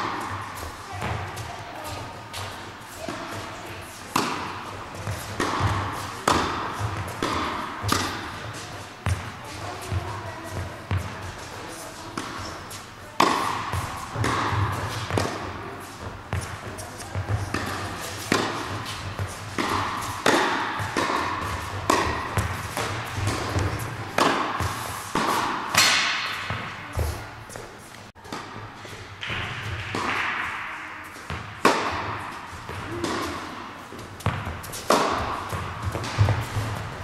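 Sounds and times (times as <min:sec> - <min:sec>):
tennis ball hit by rackets: 0:00.0 - 0:11.4, 0:12.0 - 0:27.3, 0:28.3 - 0:37.0.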